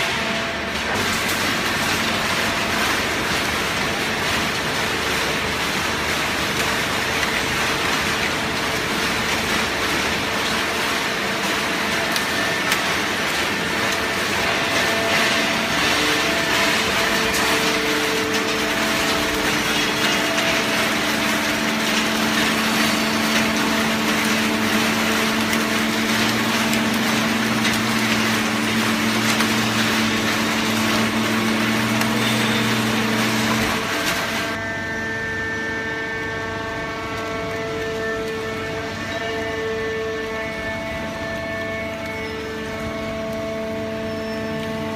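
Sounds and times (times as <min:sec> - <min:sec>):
hydraulic baler running: 0:00.0 - 0:44.9
deeper hum: 0:08.6 - 0:44.9.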